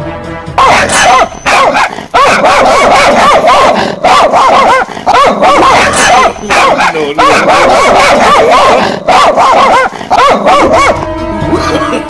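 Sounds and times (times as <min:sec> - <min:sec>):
recorded dog barking: 0:00.6 - 0:11.1.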